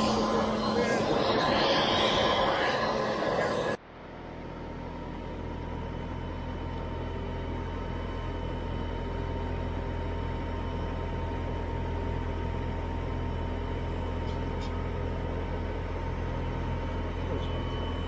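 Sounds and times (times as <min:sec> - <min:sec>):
engine running with high whine: 0:00.0 - 0:18.0.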